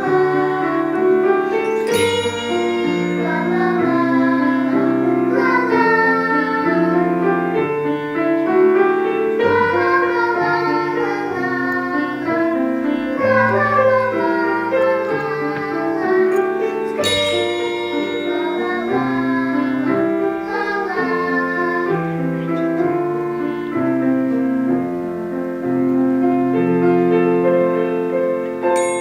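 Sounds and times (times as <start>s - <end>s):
piano accompaniment: 0.0s - 29.0s.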